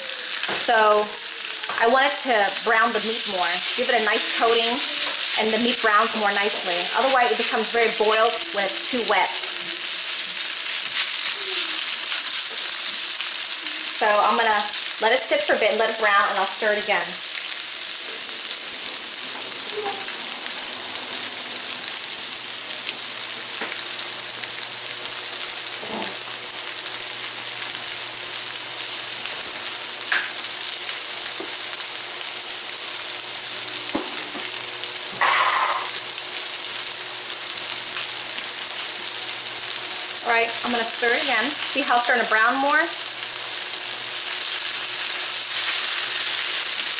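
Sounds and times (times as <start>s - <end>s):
meat sizzling in a pan: 0.0s - 46.9s.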